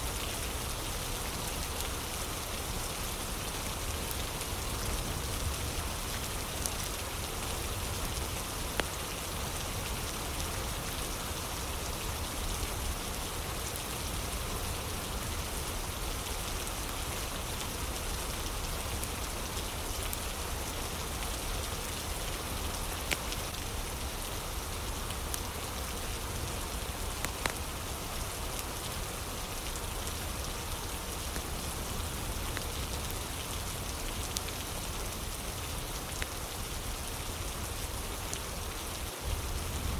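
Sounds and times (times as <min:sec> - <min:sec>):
steady rain falling: 0:00.0 - 0:39.9
wood fire crackles: 0:00.1 - 0:39.9.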